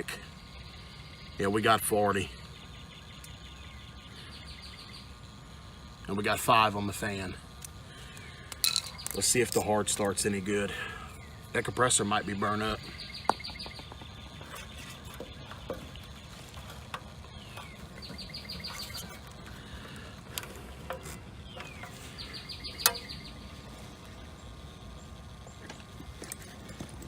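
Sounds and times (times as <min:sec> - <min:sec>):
songbird singing with trill: 0:00.3 - 0:05.5, 0:08.1 - 0:25.9.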